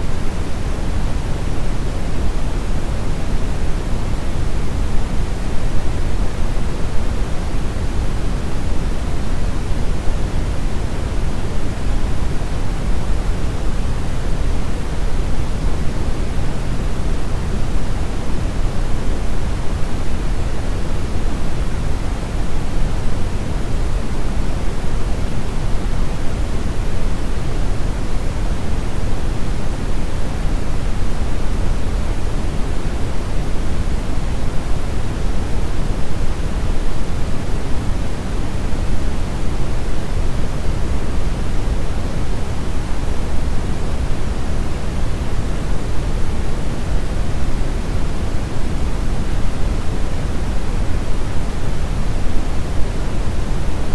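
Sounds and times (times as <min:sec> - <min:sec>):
brown noise hiss: 0:00.0 - 0:53.9.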